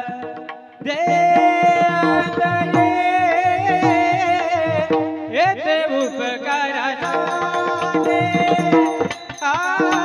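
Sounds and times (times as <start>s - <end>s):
drum strokes: 0.0s - 5.8s, 7.0s - 10.0s
person singing: 0.0s - 10.0s.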